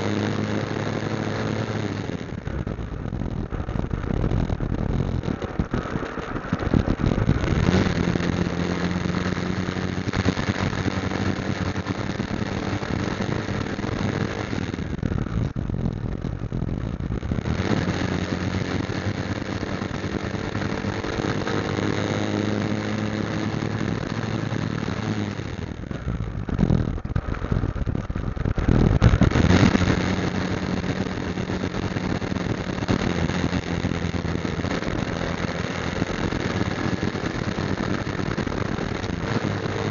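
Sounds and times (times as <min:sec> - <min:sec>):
continuous hiss: 0:00.0 - 0:39.9
motorcycle engine running: 0:00.0 - 0:39.9.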